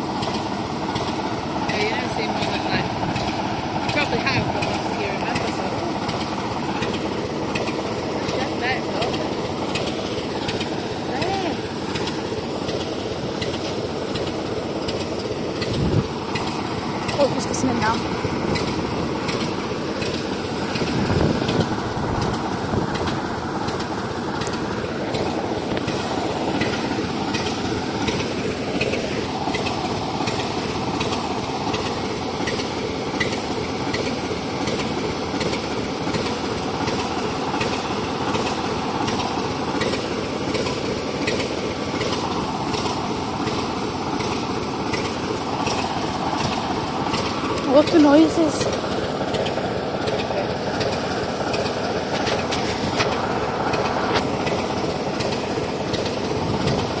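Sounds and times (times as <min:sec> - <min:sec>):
locomotive diesel engine running: 0:00.0 - 0:57.0.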